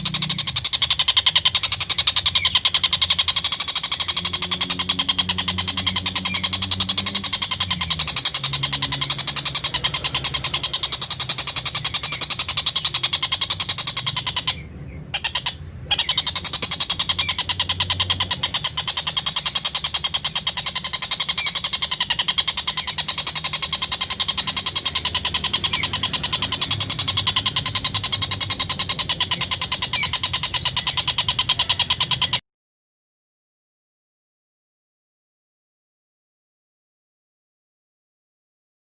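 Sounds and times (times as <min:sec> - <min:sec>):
kingfisher cackling call: 0:00.0 - 0:32.4.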